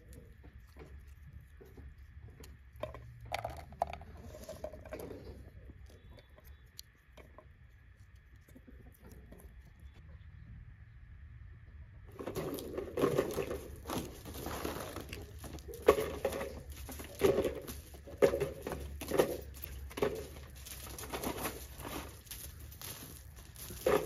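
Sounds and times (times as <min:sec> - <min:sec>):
puppy chewing crinkly plastic: 0:00.0 - 0:09.8, 0:12.1 - 0:24.0.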